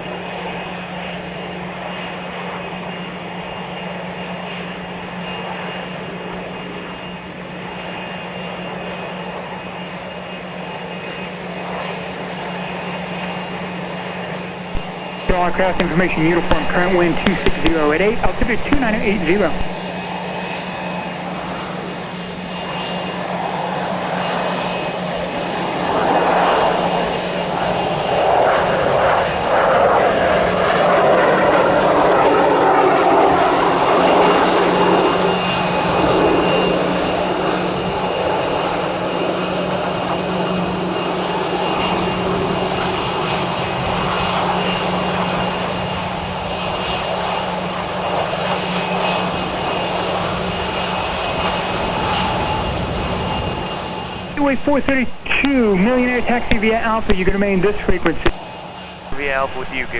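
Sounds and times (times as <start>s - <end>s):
turboprop plane engine and propeller: 0.0s - 59.9s.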